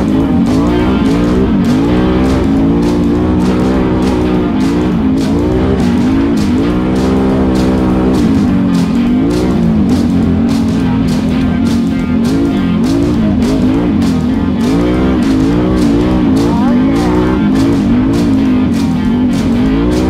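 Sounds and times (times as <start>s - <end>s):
atv engine revving: 0.0s - 20.0s
background music with beat and guitar: 0.0s - 20.0s.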